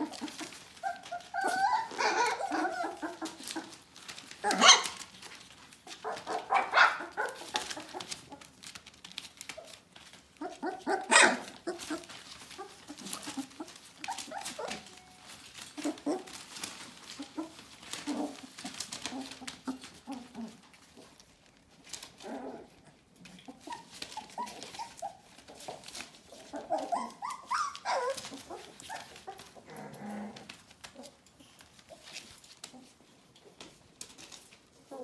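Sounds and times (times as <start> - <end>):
newspaper rustling and crinkling: 0.0 - 35.0
puppies whining and squeaking: 0.0 - 35.0.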